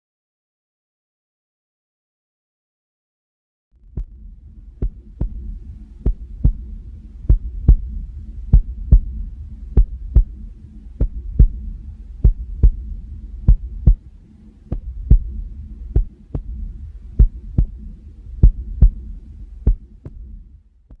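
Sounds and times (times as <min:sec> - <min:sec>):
heartbeat double thud: 0:03.8 - 0:21.0
steady low rumble: 0:03.8 - 0:21.0.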